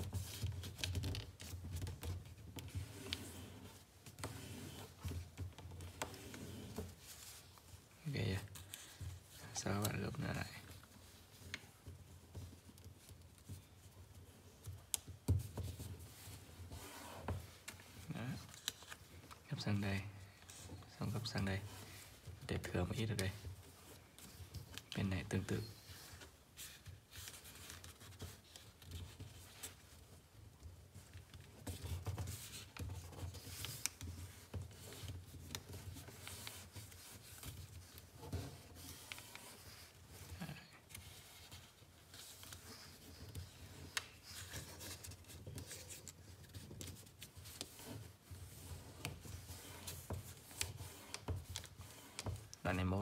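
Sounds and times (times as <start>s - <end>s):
paper rustling and rubbing: 0.0s - 53.0s.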